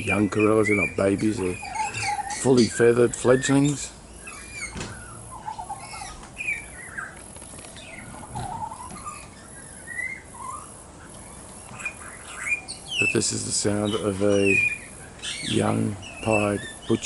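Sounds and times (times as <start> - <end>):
bird warbling: 0.0 - 17.0.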